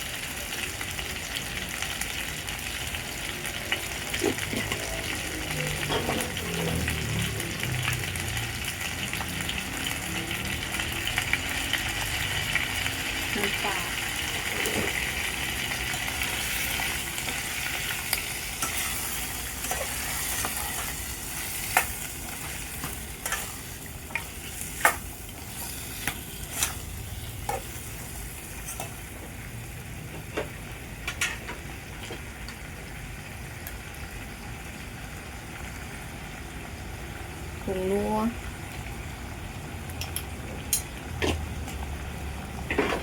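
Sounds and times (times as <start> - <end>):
food sizzling in a pot: 0.0 - 43.0.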